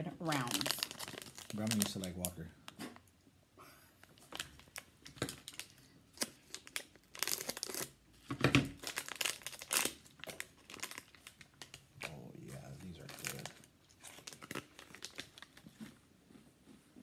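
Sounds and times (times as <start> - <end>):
plastic wrapper crinkling and tearing: 0.2 - 3.1, 4.0 - 16.0.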